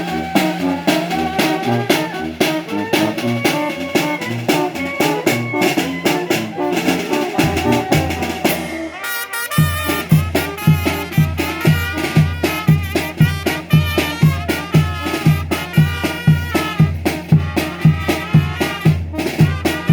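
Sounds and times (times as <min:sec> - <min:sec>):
brass band playing: 0:00.0 - 0:19.9.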